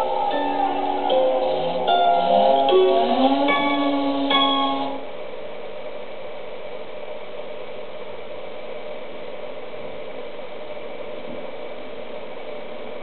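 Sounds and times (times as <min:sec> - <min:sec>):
steady hiss with low hum: 0:00.0 - 0:13.0.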